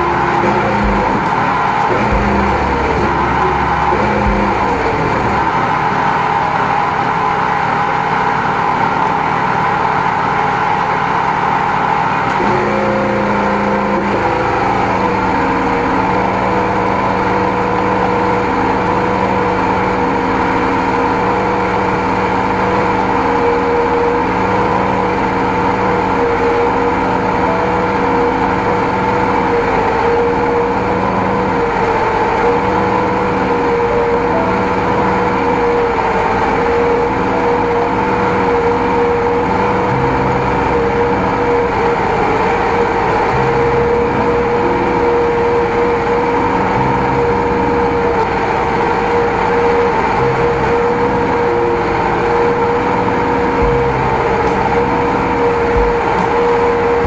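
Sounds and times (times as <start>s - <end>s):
drain jetting machine running: 0.0s - 57.0s
steady whine: 0.0s - 57.0s.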